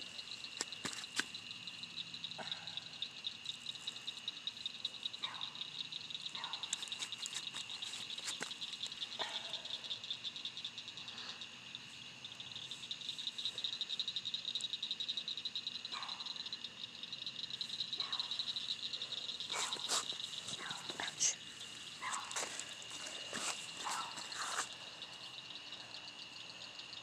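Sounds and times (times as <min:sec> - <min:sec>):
insects or frogs trilling: 0:00.0 - 0:27.0.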